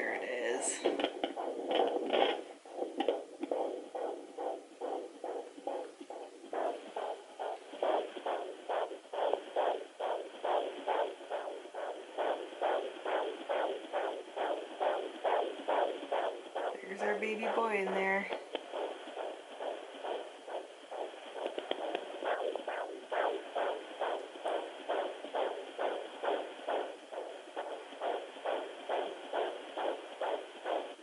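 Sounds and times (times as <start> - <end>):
fetal heartbeat whooshing pulses: 0.0 - 31.0.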